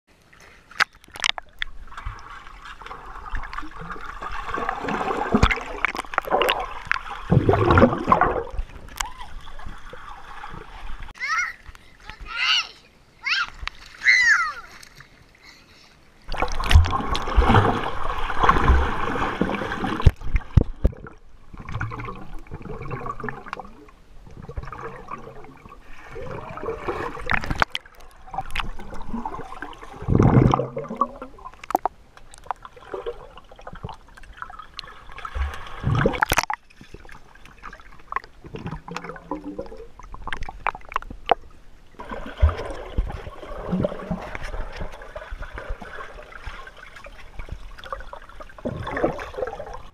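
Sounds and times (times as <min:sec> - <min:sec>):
water splashing: 0:00.2 - 0:12.6, 0:13.2 - 0:15.4, 0:16.2 - 0:49.9
bubbles: 0:00.8 - 0:11.1, 0:16.3 - 0:49.9.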